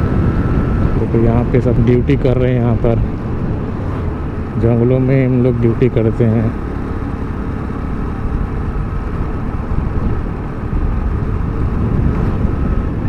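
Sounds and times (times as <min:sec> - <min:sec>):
motorcycle engine rumble: 0:00.0 - 0:13.0
wind noise: 0:00.0 - 0:13.0.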